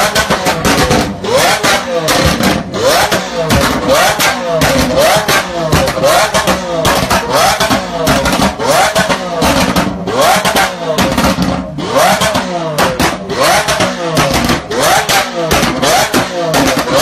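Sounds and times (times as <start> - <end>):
car engine revving: 0.0 - 17.0
exhaust pops and crackles: 0.0 - 17.0.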